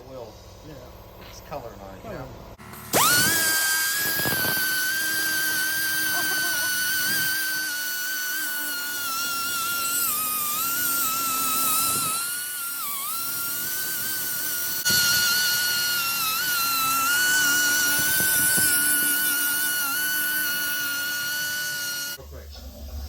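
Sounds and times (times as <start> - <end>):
wire wheel scouring metal: 2.6 - 22.2.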